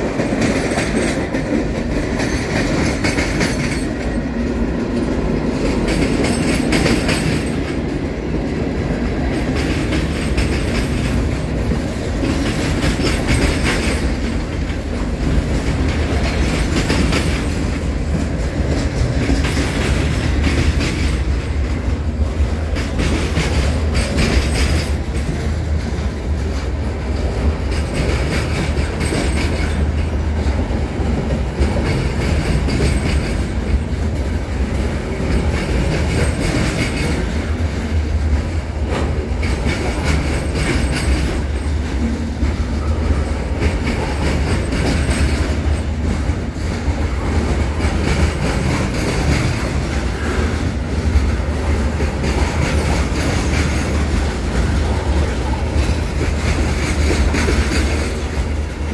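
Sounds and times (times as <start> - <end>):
freight train wheels rumbling: 0.0 - 58.9
wheels clacking over rail joints: 0.0 - 58.9.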